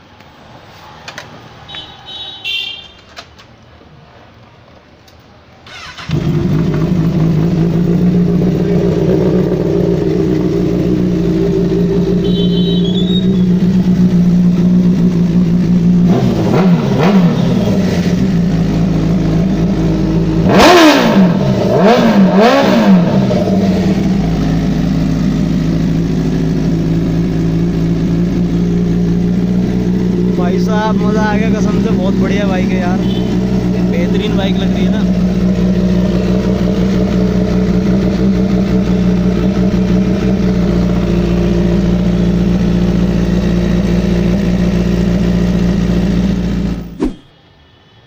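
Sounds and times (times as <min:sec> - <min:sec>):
motorcycle engine idling and revving: 0:05.7 - 0:47.0.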